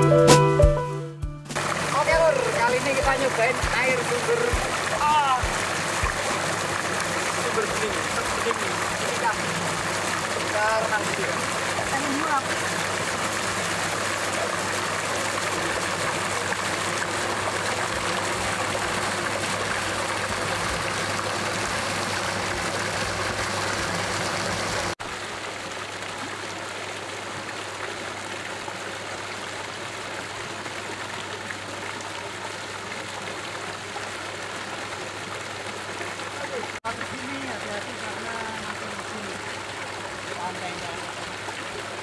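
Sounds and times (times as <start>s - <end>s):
water pouring into pool: 1.5s - 42.0s.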